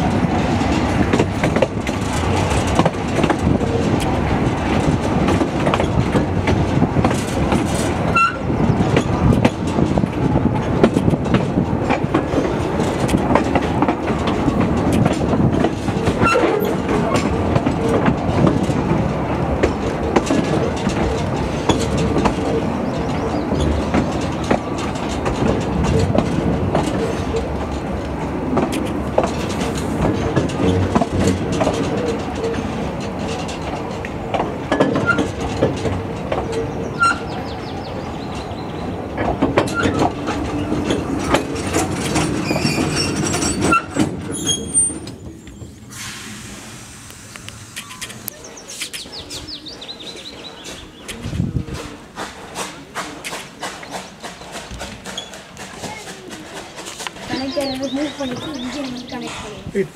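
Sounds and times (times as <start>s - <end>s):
clicks over rail joints: 0.0s - 45.6s, 47.1s - 59.9s
train wheels rumbling on rail: 0.0s - 59.9s.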